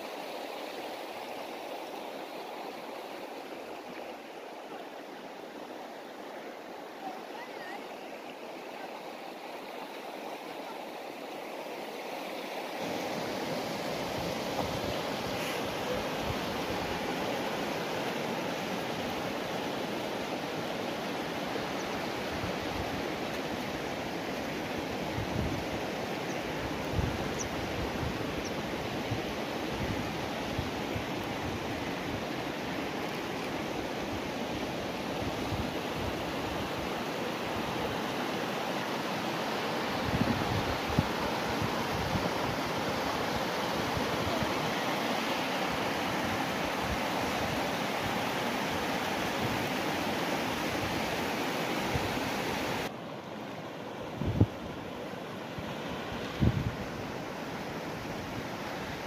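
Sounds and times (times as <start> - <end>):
stream running over stones: 0.0 - 59.0.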